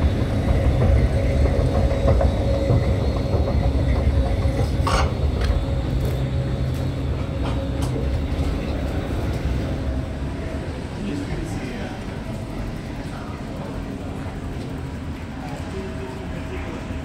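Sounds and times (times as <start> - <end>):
escalator machinery rumble: 0.0 - 17.0.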